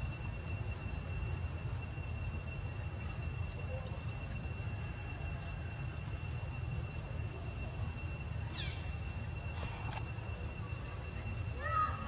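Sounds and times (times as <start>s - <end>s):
faint chirps: 0.0s - 12.0s
high-pitched whine: 0.0s - 12.0s.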